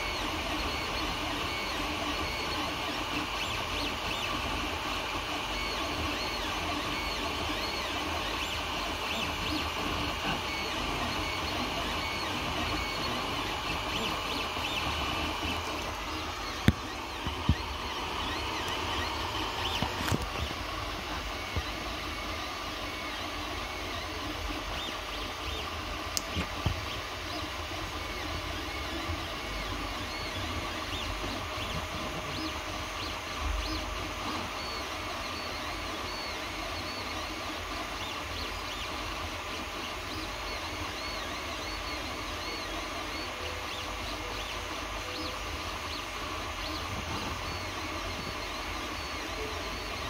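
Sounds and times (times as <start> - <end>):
cooling fans humming: 0.0 - 50.0
stepper motors whining: 0.0 - 50.0.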